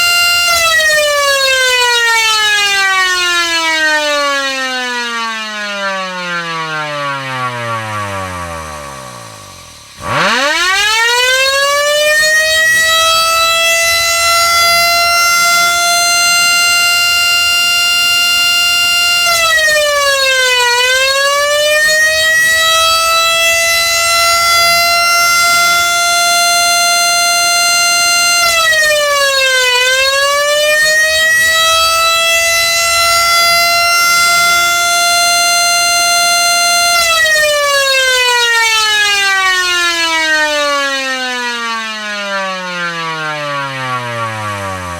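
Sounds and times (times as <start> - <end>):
motor siren wailing: 0.0 - 44.9.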